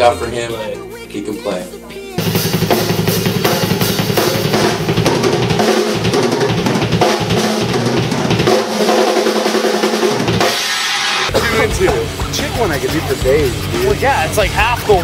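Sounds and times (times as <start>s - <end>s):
drum kit played fast: 2.1s - 15.0s.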